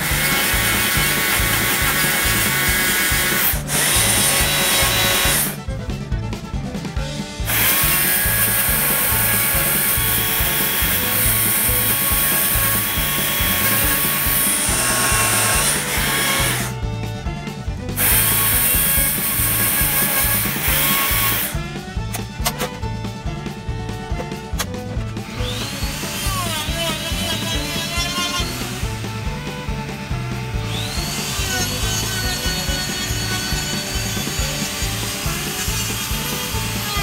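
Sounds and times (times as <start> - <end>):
chainsaw cutting wood: 0.0 - 5.7, 7.2 - 16.8, 17.9 - 22.9, 24.1 - 37.0
music with steady beat: 0.0 - 37.0.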